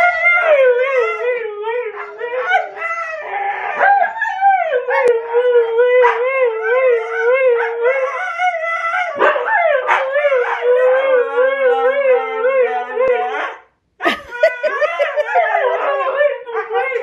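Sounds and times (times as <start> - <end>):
dogs howling: 0.0 - 17.0.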